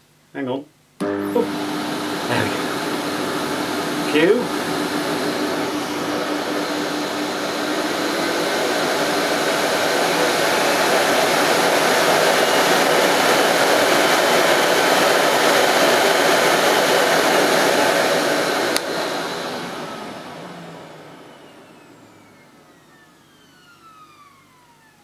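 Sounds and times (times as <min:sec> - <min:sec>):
vacuum cleaner motor running: 0:01.0 - 0:25.0.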